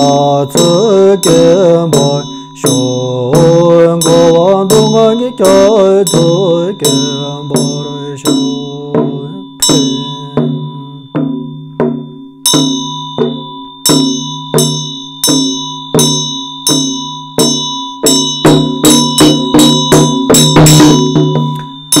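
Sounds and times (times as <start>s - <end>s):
hand bell ringing: 0.0s - 22.0s
pellet drum beating: 0.0s - 22.0s.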